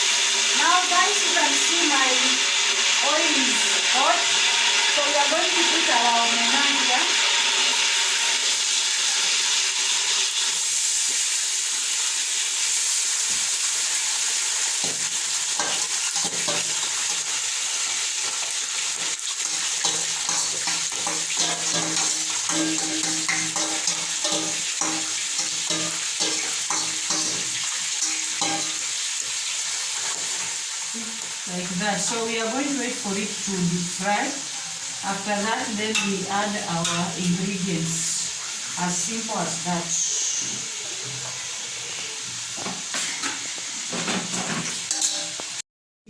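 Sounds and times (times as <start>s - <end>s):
fish deep frying in oil: 0.0s - 45.6s.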